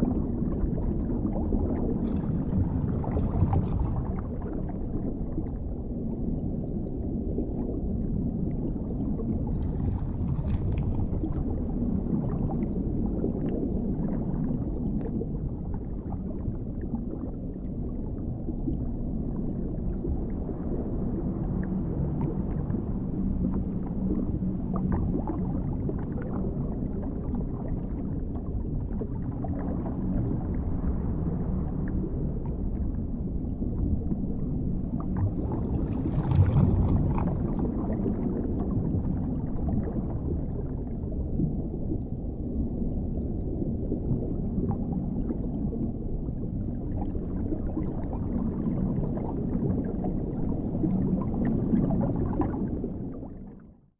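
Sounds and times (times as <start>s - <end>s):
muffled underwater rumble: 0.0s - 53.9s.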